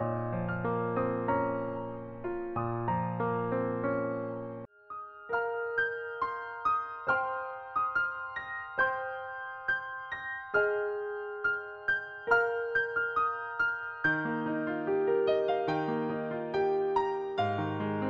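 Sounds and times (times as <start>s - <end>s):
keyboard melody: 0.0s - 18.0s.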